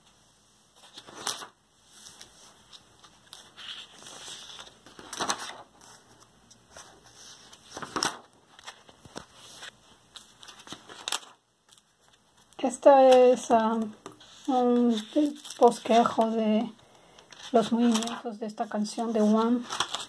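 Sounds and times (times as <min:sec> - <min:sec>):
sketchbook page flips: 0:00.8 - 0:16.6, 0:17.2 - 0:18.2, 0:19.0 - 0:20.0
paper rustling: 0:00.8 - 0:18.2, 0:18.8 - 0:20.0.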